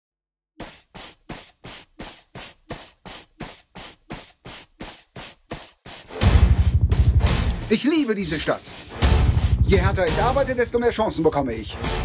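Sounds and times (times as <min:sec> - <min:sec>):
short rhythmic hissing strokes: 0:00.6 - 0:10.2.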